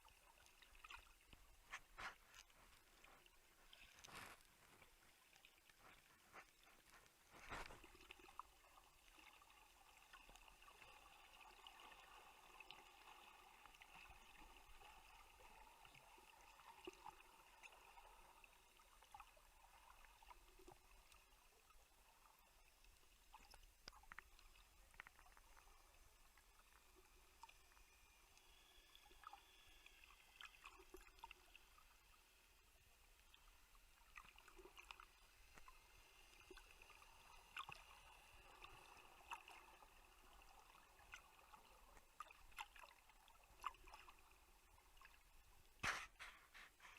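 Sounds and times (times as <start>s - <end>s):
soft wavering underwater hiss: 0.0s - 46.9s.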